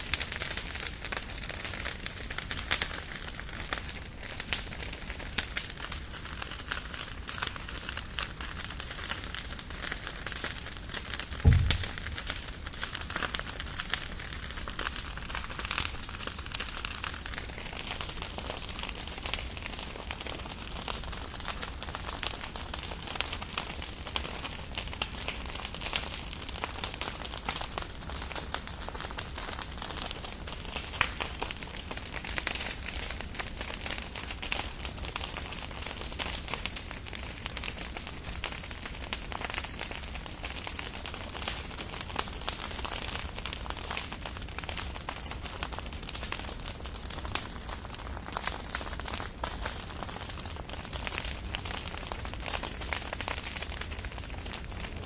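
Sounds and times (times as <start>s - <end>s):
firewood crackling and popping: 0.0s - 55.0s.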